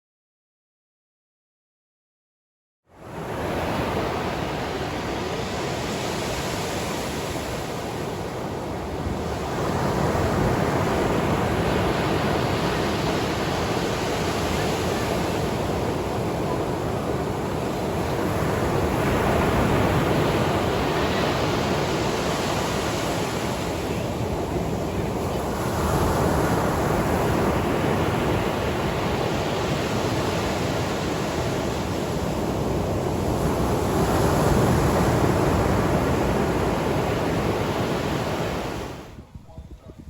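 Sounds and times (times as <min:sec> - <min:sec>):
sea surf washing in: 0:03.0 - 0:39.3.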